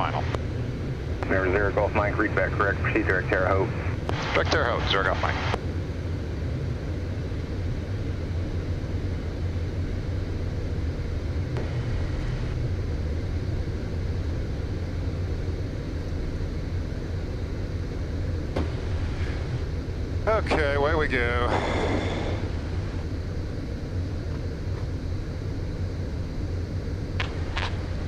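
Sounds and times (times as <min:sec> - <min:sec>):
jet engine and airflow rumble: 0:00.0 - 0:28.0.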